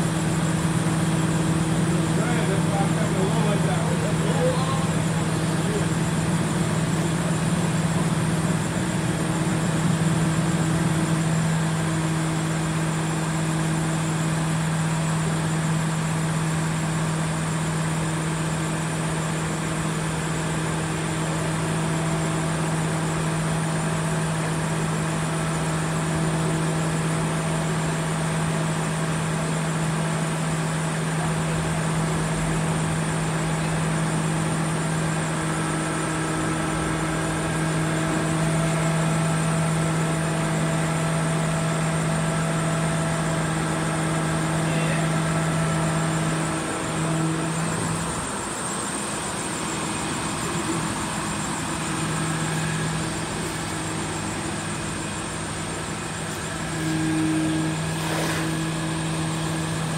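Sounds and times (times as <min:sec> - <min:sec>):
crane engine humming: 0:00.0 - 0:59.9.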